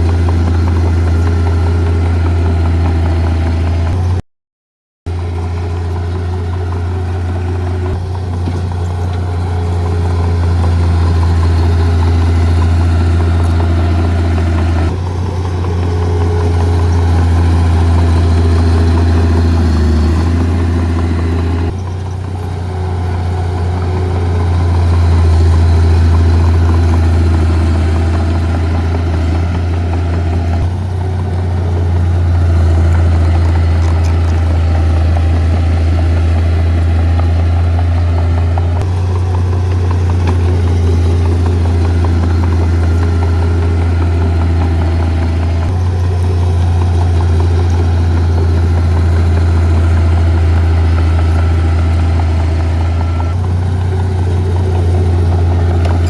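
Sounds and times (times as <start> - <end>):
heavy diesel engine running: 0.0 - 4.2, 5.1 - 56.0.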